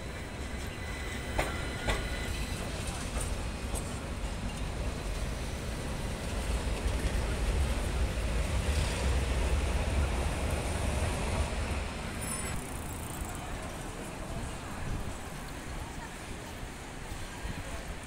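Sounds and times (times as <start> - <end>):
tram rumbling: 0.0 - 18.0.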